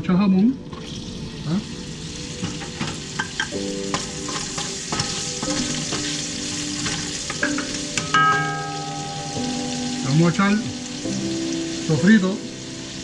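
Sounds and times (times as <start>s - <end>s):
ham sizzling in oil: 0.6s - 13.0s.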